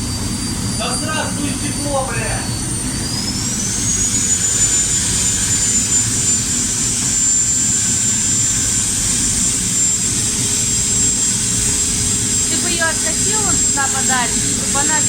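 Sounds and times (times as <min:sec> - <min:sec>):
power tool whining: 0:00.0 - 0:15.0.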